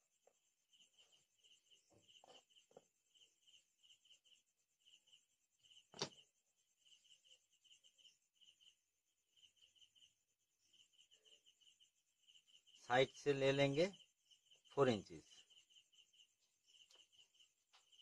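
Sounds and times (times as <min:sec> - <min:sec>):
faint high chirps: 0:00.0 - 0:18.0.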